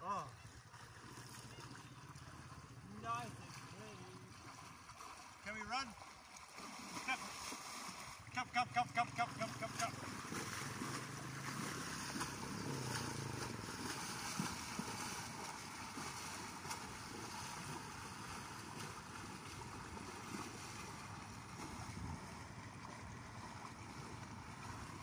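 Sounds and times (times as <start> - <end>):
horse splashing through river: 0.0 - 25.0.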